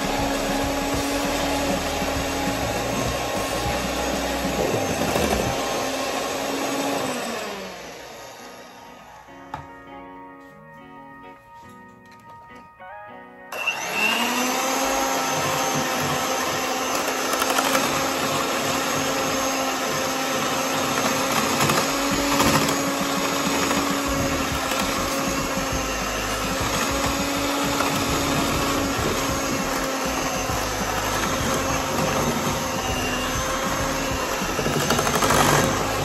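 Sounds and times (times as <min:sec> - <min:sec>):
electric mixer motor running: 0:00.0 - 0:09.3, 0:13.5 - 0:36.0.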